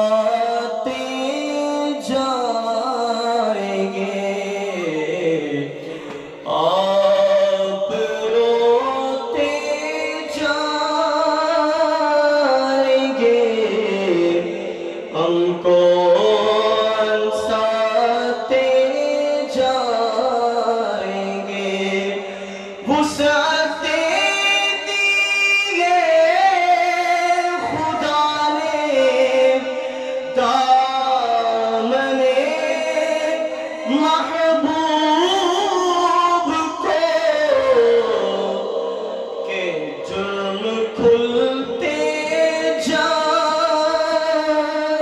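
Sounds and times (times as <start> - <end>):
man singing devotional song: 0.0 - 45.0.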